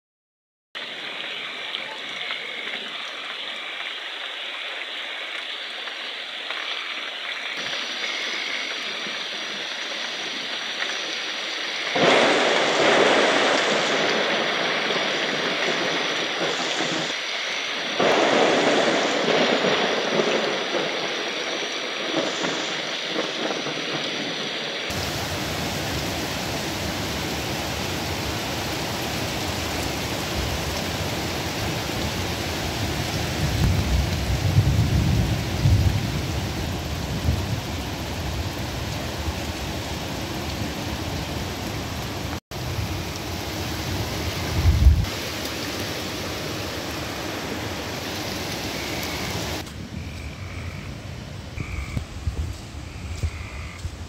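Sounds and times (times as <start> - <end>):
heavy rain hiss: 0.8 - 54.0.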